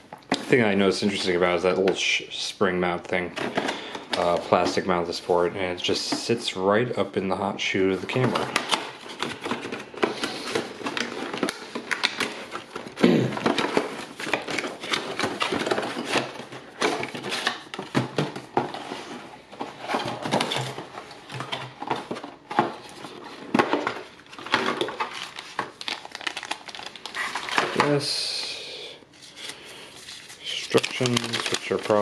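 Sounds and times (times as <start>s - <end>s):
cardboard and plastic rustling: 0.1s - 28.4s, 29.1s - 32.0s.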